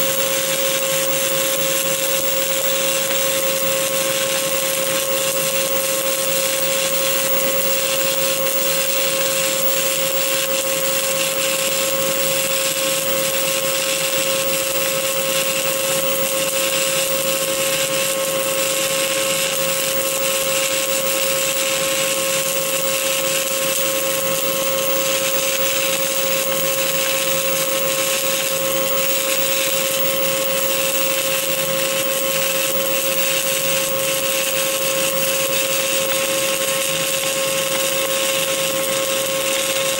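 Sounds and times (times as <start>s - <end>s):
welding arc crackling hiss: 0.0s - 39.9s.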